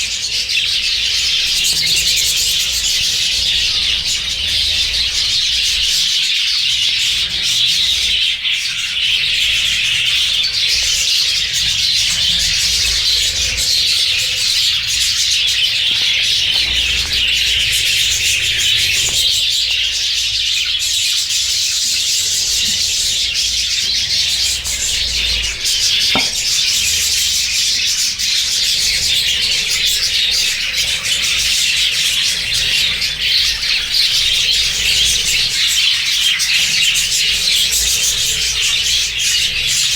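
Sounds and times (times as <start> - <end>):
budgies chattering and chirping: 0.0 - 39.9.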